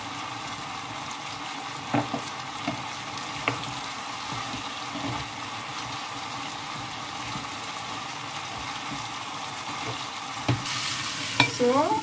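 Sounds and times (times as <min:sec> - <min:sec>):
peppers sizzling in a frying pan: 0:00.0 - 0:12.0.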